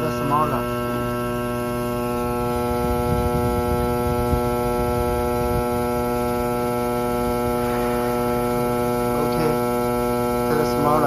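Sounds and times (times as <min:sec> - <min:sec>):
cutting machine electrical hum: 0:00.0 - 0:11.0.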